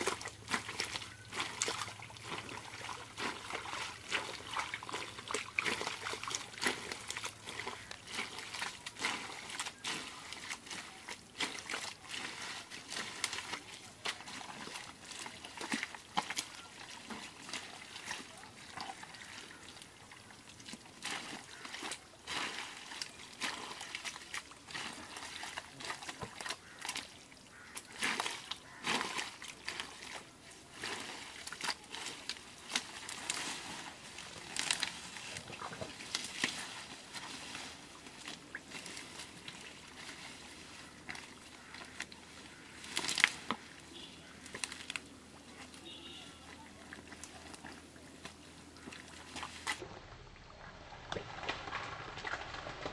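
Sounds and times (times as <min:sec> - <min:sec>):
hands squelching in wet mud: 0:00.0 - 0:52.9.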